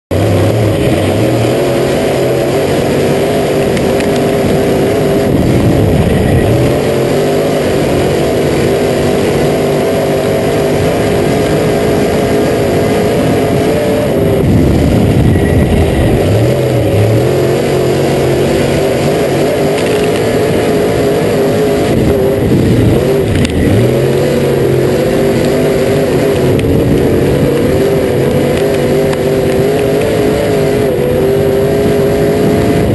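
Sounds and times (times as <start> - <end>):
race car engine running hard: 0.0 - 32.9.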